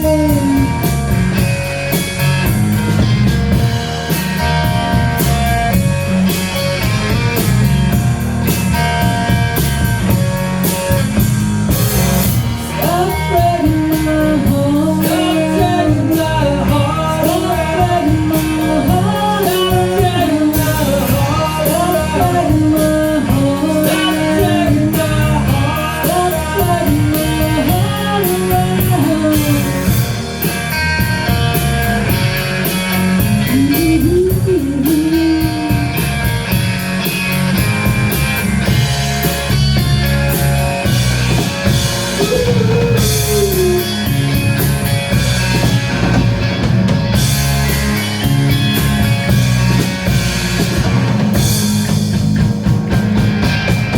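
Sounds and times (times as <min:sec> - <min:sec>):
bending lead guitar: 0:00.0 - 0:53.9
blues-rock band playing: 0:00.0 - 0:53.9.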